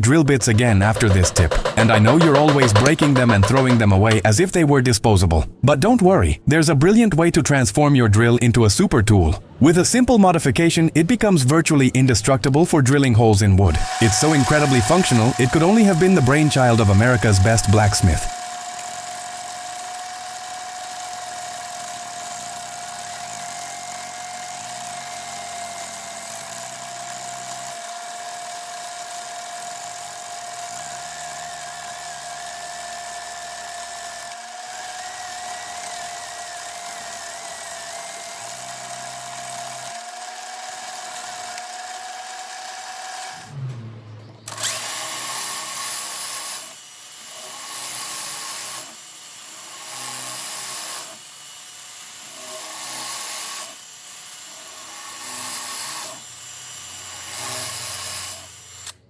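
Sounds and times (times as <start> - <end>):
rough noisy power tool: 0.4 - 4.3, 13.7 - 59.0
electric drill whining: 0.5 - 3.8, 13.8 - 43.5, 44.5 - 59.0.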